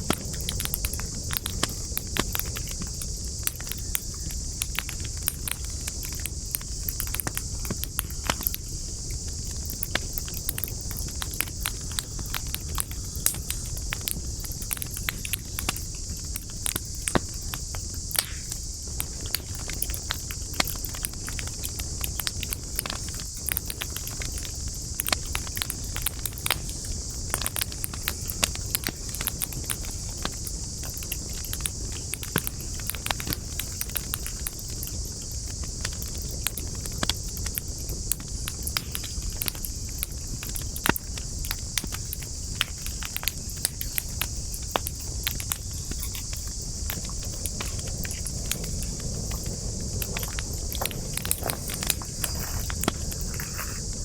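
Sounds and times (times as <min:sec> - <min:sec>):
campfire crackling and popping: 0:00.0 - 0:54.0
high-pitched hiss: 0:00.0 - 0:54.0.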